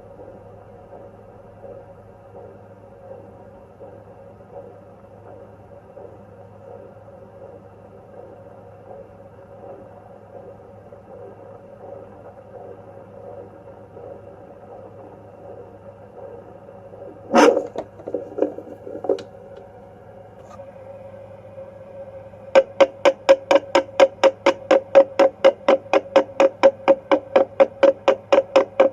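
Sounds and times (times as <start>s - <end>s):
static hiss with hum: 0.0s - 28.9s.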